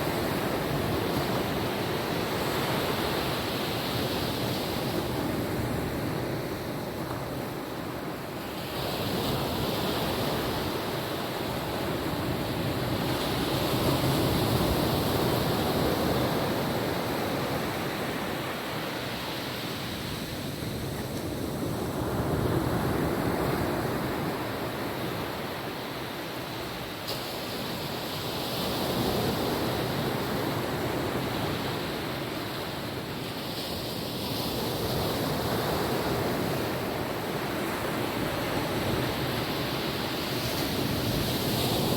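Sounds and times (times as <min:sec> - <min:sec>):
ocean waves washing onto beach: 0:00.0 - 0:41.9.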